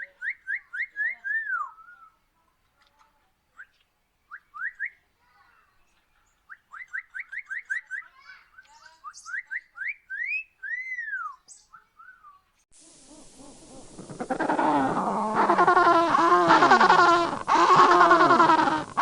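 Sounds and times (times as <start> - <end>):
bird whistling song: 0.0 - 2.2, 3.6 - 5.1, 6.2 - 19.0.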